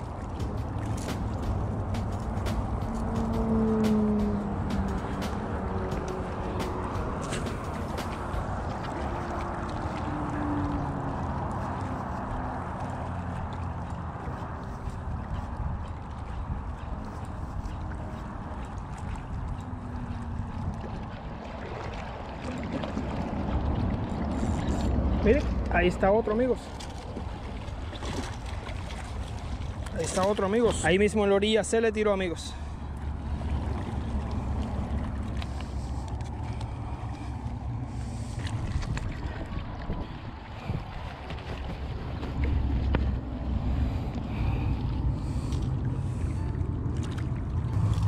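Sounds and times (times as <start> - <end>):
wind rumble on microphone: 0.0 - 31.0, 32.7 - 48.0
waves lapping on rocks: 0.0 - 48.0.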